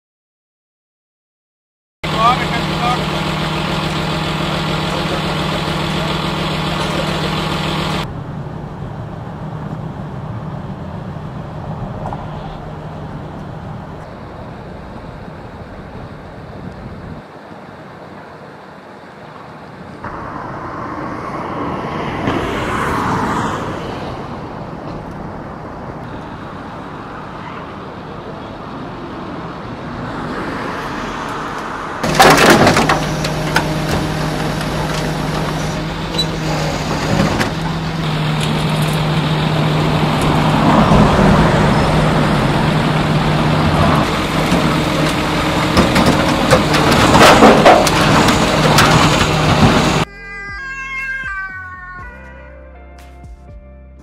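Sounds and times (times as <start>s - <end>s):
vehicle engine running nearby: 2.0s - 50.1s
motorway traffic passing: 2.0s - 53.0s.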